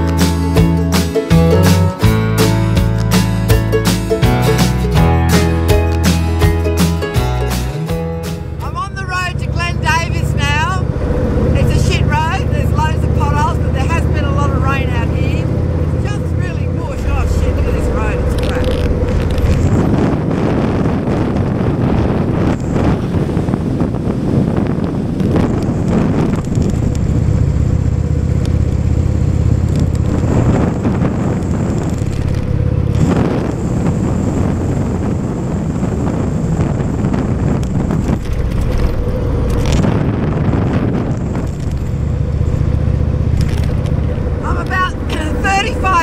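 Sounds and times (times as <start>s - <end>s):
motorcycle engine running: 0.0s - 46.0s
wind buffeting microphone: 8.4s - 46.0s.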